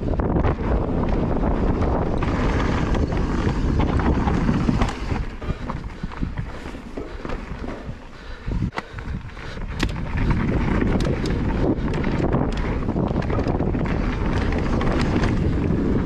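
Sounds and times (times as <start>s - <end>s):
bike tyres rumbling over gravel: 0.0s - 16.0s
wind buffeting microphone: 0.0s - 16.0s
bike knocks and rattles: 0.2s - 16.0s.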